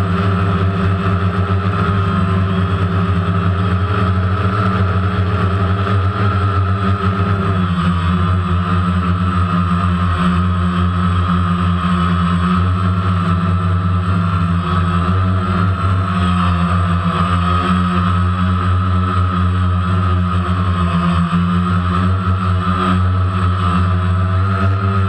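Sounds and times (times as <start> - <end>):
drone motors humming and whining: 0.0 - 25.0.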